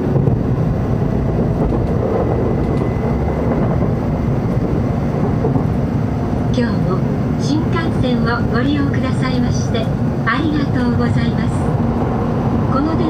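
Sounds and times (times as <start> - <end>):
train running rumble from inside: 0.0 - 13.0.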